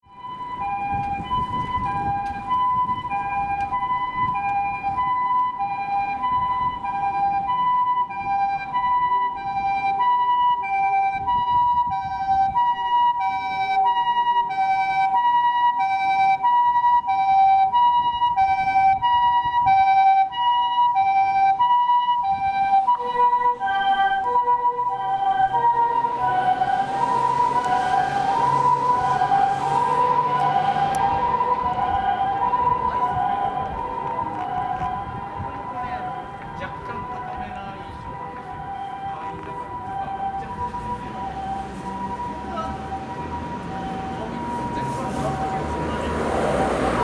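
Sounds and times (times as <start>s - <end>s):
road rumble: 0.0s - 47.0s
two-tone ambulance siren: 0.0s - 47.0s.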